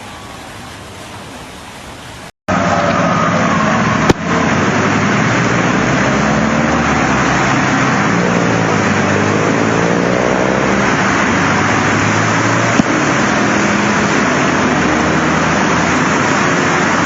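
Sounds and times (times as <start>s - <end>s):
loud steady rushing noise: 2.5s - 17.0s
vehicle engine running: 2.5s - 17.0s.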